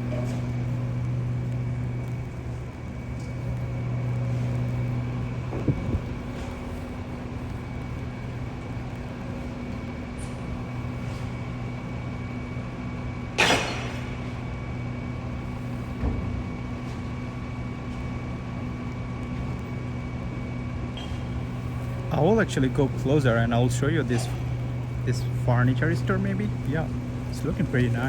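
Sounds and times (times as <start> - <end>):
mechanical hum of city street: 0.0 - 28.0.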